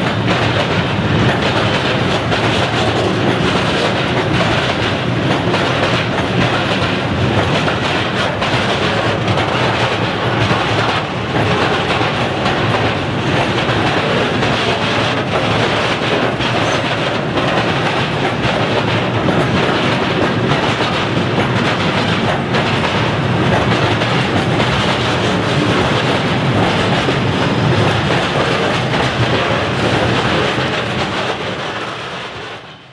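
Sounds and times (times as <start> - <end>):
wheels clacking over rail joint: 0.0 - 32.7
train wheels rumbling on rail: 0.0 - 32.9.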